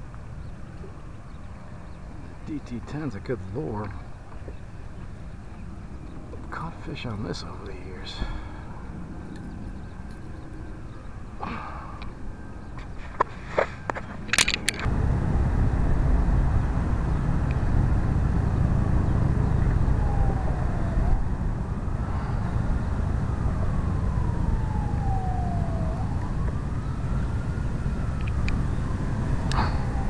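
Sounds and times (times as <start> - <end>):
low rumble: 0.0 - 30.0
emergency siren wailing: 0.6 - 12.8, 14.3 - 30.0.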